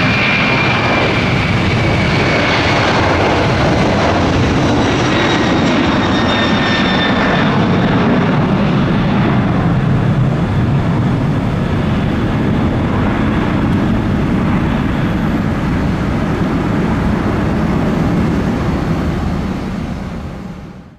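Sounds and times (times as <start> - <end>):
deep jet engine rumble: 0.0 - 20.9
high engine whine: 0.0 - 20.9.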